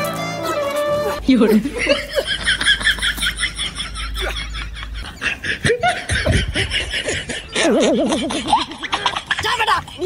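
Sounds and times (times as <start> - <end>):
laughter in quick bursts: 1.5 - 10.0.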